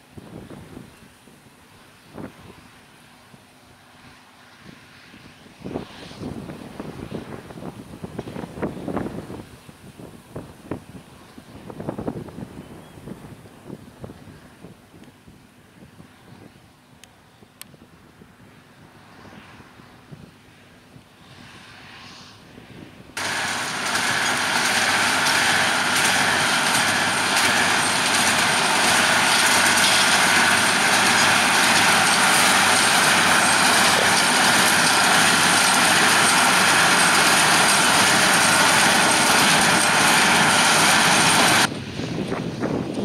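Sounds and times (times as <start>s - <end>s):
tractor engine and baler machinery: 0.0s - 43.0s.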